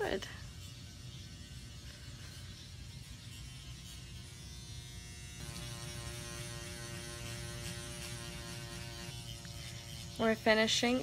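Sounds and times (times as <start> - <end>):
microneedling pen buzzing: 0.0 - 11.0.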